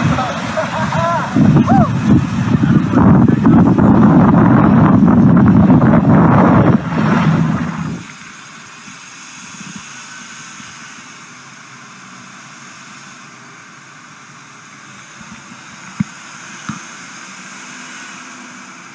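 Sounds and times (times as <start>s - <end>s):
jet cockpit airflow and engine: 0.0s - 18.9s.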